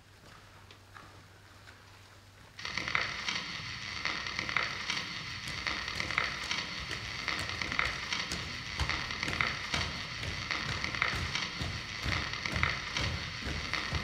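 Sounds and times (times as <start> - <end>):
crackling static noise: 0.0 - 14.0
soft regular pulse: 2.6 - 14.0.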